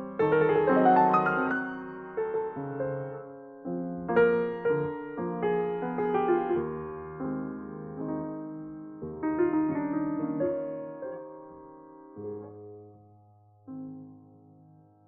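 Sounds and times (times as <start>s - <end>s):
grand piano playing softly: 0.0s - 15.0s.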